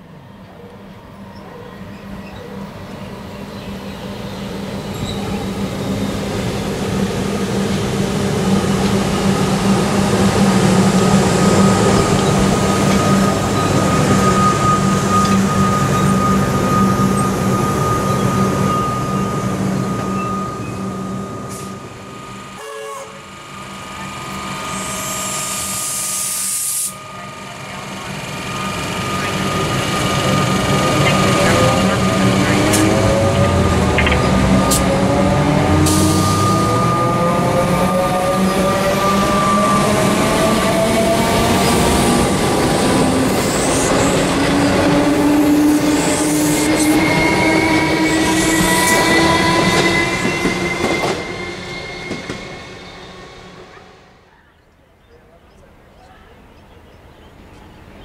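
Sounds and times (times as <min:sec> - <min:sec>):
train wheels rumbling on rail: 0:00.0 - 0:54.6
high train whine: 0:00.0 - 0:58.0.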